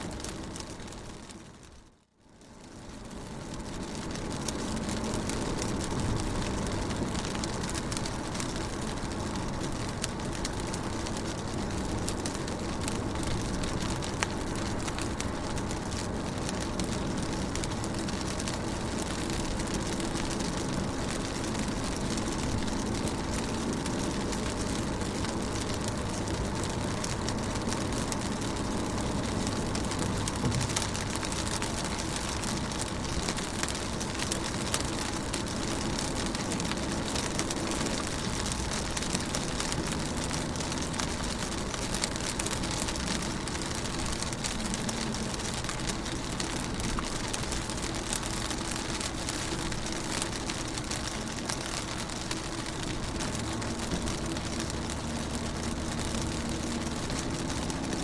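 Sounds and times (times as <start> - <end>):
rain pattering on a car: 0.0 - 58.0
low even rumble: 2.7 - 58.0.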